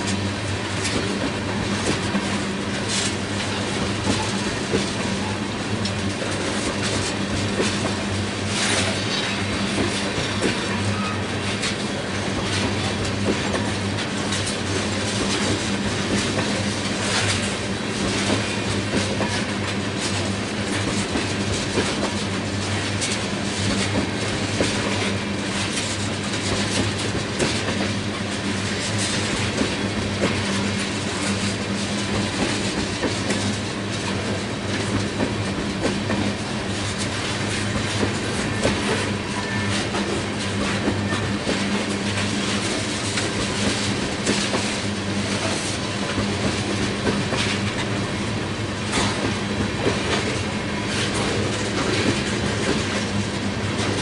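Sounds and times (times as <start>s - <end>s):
train wheels clicking over rail joints: 0.0s - 54.0s.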